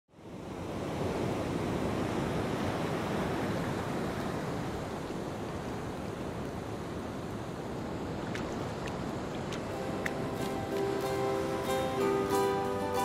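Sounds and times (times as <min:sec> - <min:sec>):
sea surf rushing: 0:00.2 - 0:13.0.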